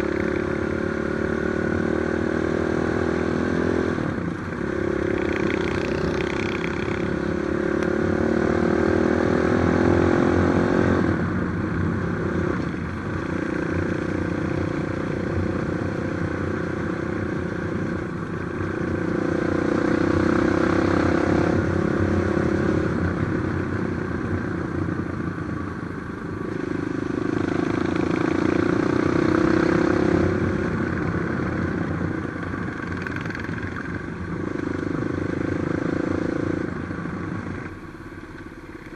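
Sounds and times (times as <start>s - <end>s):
motorcycle engine revving: 0.0s - 23.9s, 26.4s - 38.9s.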